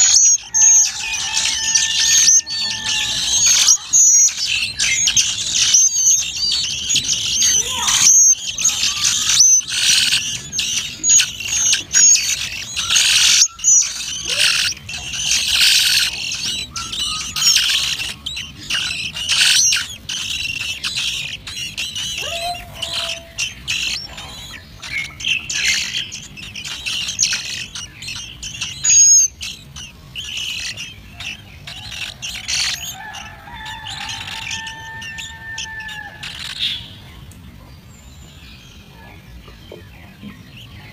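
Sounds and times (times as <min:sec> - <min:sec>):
nestlings cheeping: 0:00.0 - 0:37.0.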